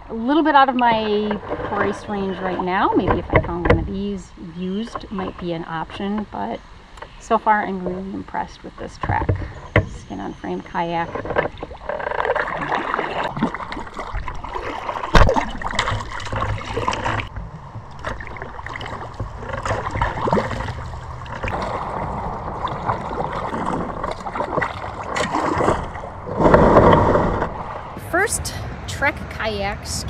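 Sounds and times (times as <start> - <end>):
water gurgling and splashing: 0.0 - 6.6, 7.3 - 28.0
paddle strokes: 0.3 - 27.8.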